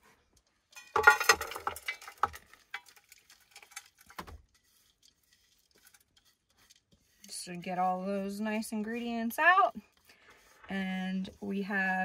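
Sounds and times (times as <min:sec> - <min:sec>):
wooden spoon scraping bowl: 0:01.0 - 0:12.0.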